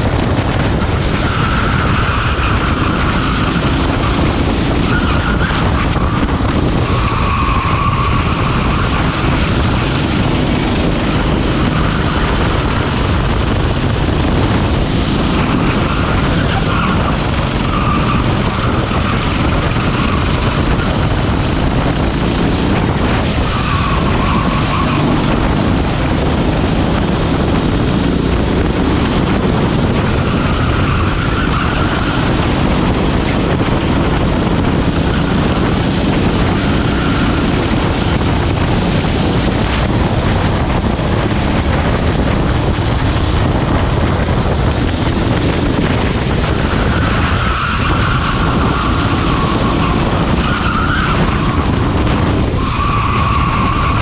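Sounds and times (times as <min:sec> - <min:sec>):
go-kart engine racing: 0:00.0 - 0:54.0.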